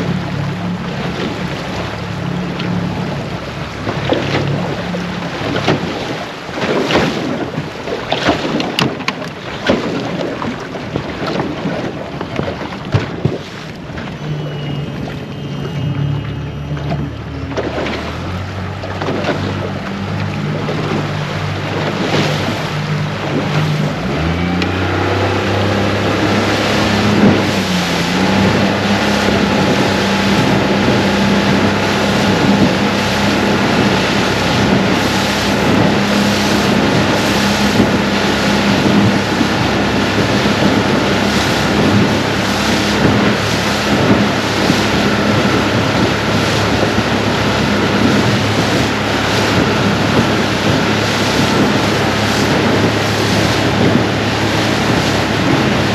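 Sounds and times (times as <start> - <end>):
outboard motor running: 0.0 - 55.9
water rushing past hull: 0.0 - 55.9
wind buffeting microphone: 0.0 - 55.9.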